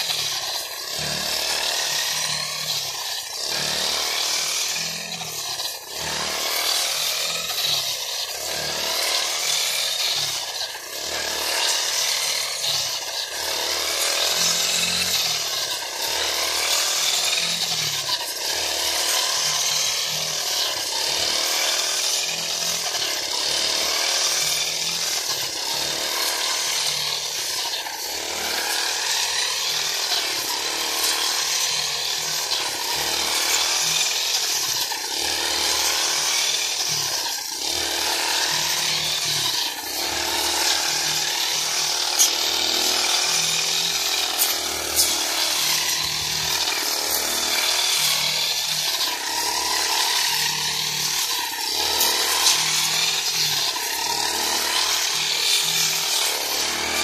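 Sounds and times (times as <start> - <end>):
blade cutting green fodder: 0.0 - 57.0
brush cutter engine running: 0.0 - 57.0.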